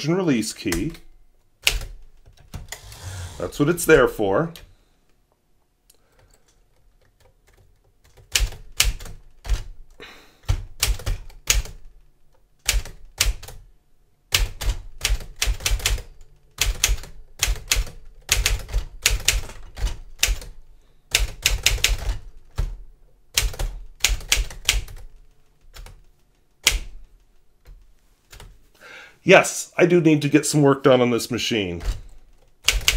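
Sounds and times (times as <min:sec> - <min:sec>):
manual typewriter typing: 0:00.7 - 0:04.7, 0:06.1 - 0:13.7, 0:14.3 - 0:28.5, 0:31.6 - 0:32.9.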